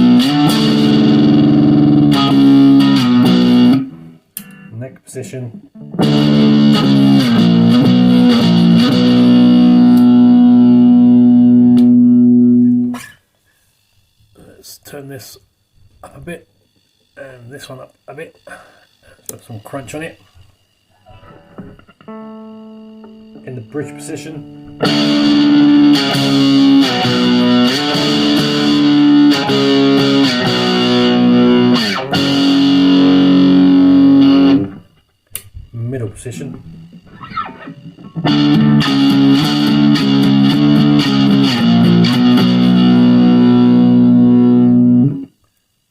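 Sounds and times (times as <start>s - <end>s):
distorted electric guitar chords: 0.0s - 13.2s, 21.0s - 45.4s.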